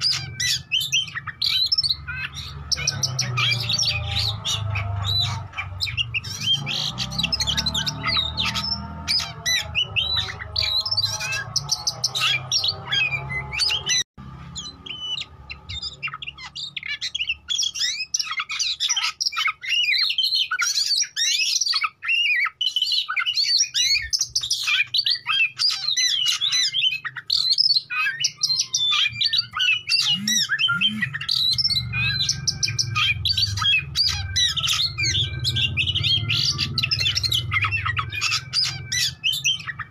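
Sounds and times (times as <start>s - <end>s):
harsh bird squawks: 0.0s - 39.9s
songbird singing: 0.0s - 39.9s.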